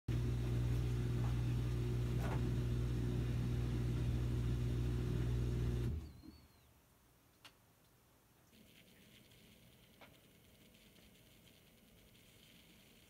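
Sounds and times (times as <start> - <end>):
low electrical hum: 0.1 - 13.0.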